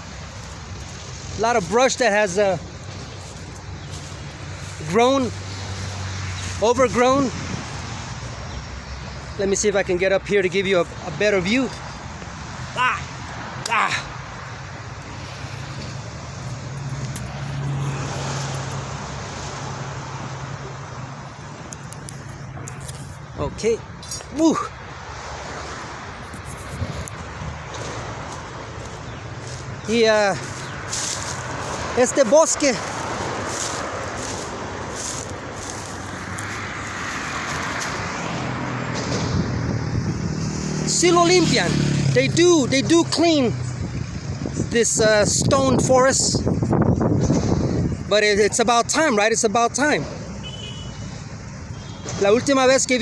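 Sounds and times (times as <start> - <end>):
vehicle passing by: 0.0 - 21.7, 24.6 - 48.1
road traffic passing: 0.0 - 53.0.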